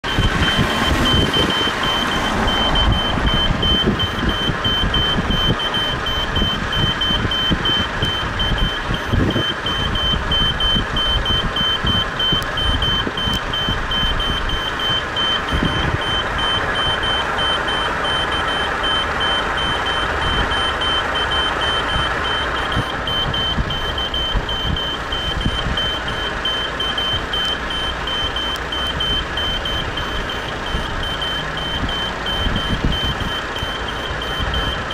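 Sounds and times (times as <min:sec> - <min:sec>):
crossing signal beeping rapidly: 0:00.0 - 0:34.9
low rumbling: 0:00.0 - 0:34.9.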